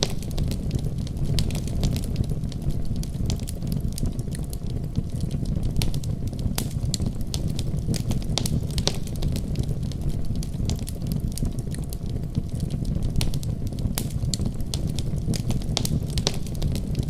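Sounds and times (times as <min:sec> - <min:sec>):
storm wind rumble: 0:00.0 - 0:17.0
wood fire crackling and popping: 0:00.0 - 0:17.0.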